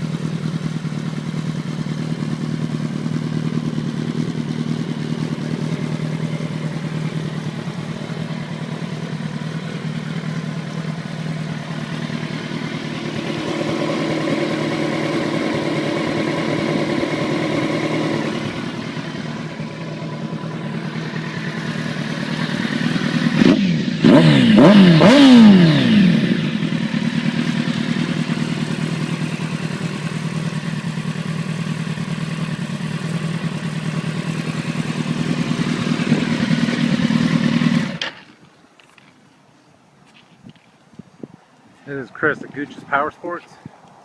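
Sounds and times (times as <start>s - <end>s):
motorcycle engine revving: 0.0s - 38.3s.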